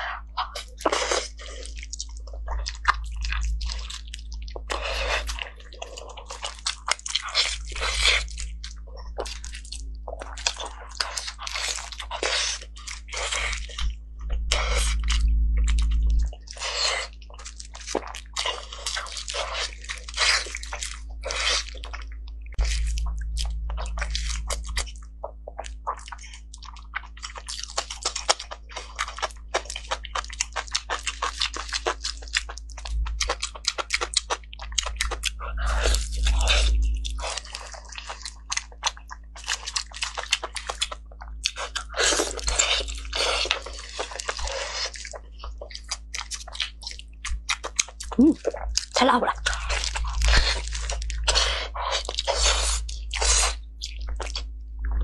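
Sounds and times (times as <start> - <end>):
close chewing and mouth smacks: 0.0 - 55.0
low steady hum: 0.0 - 55.0.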